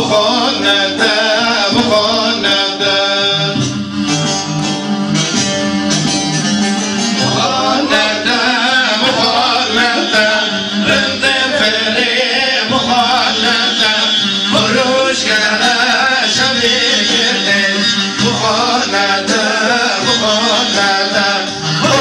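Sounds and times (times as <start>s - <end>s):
men singing folk song: 0.0s - 3.8s, 7.1s - 22.0s
plucked string accompaniment: 0.0s - 22.0s.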